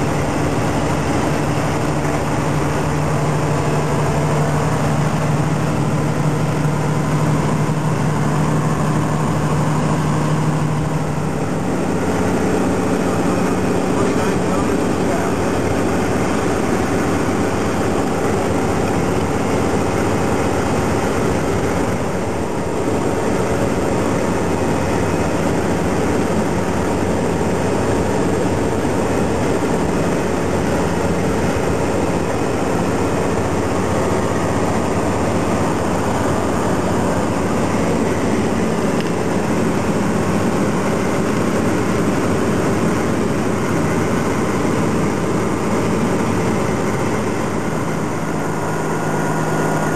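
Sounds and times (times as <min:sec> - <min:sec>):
diesel truck engine drone: 0:00.0 - 0:49.9
road and tyre noise: 0:00.0 - 0:49.9.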